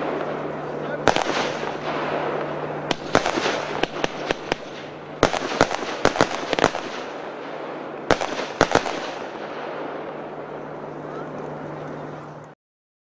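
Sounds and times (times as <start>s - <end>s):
firework bangs: 0.0s - 12.2s
steady firework hiss: 0.0s - 12.5s.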